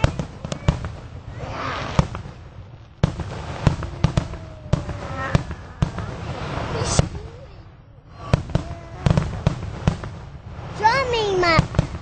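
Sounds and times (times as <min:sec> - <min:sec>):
firework shells bursting: 0:00.0 - 0:07.5, 0:08.2 - 0:12.0
fireworks crackling: 0:00.0 - 0:12.0.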